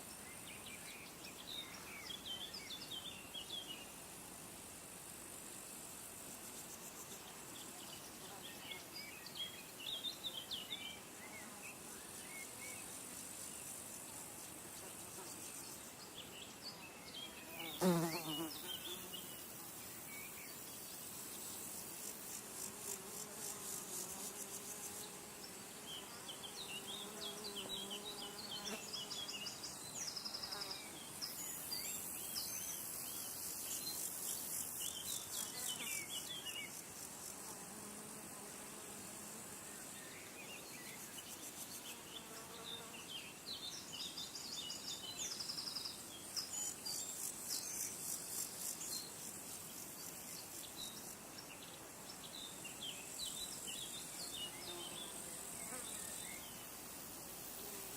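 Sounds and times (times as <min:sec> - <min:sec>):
flying insects buzzing: 0:00.0 - 0:57.9.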